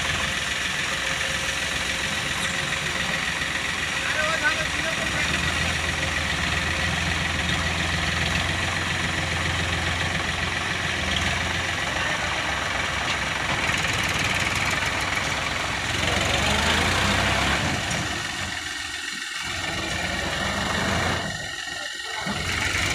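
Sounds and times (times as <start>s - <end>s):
diesel engine running at low revs: 0.0s - 22.9s.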